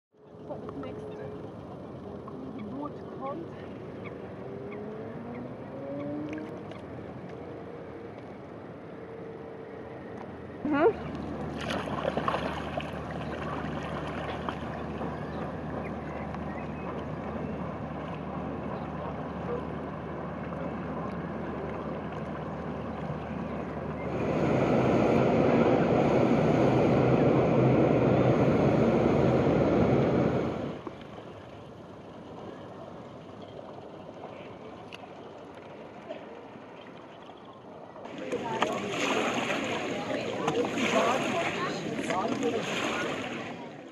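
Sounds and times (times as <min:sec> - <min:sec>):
water lapping: 0:00.2 - 0:07.4, 0:10.6 - 0:43.9.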